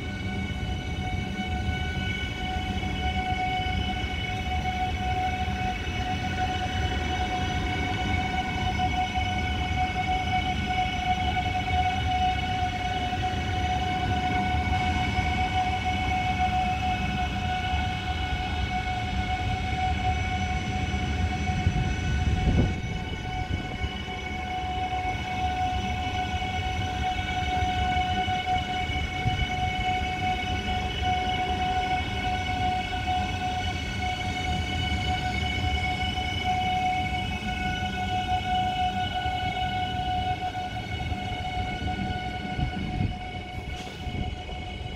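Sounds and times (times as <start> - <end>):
electric train whine: 0.0 - 44.9
wheels rumbling on rail: 0.0 - 44.9.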